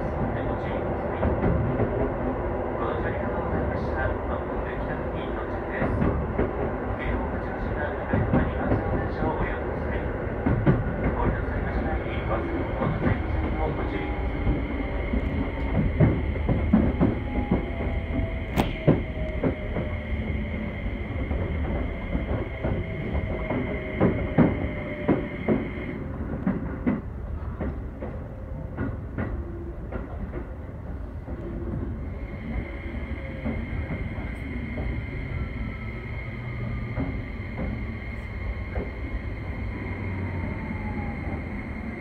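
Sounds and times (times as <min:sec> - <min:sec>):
train rumble inside car: 0:00.0 - 0:42.0.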